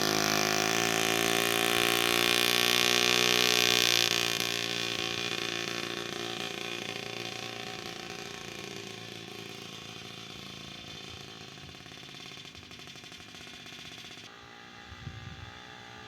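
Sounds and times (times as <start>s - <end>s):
moped engine running: 0.0s - 16.0s.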